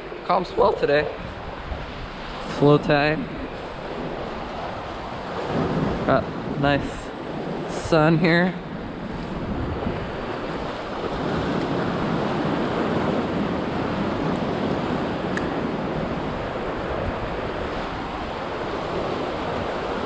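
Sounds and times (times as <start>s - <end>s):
ocean surf against rocks: 0.0s - 20.0s
wind on microphone: 0.0s - 20.0s.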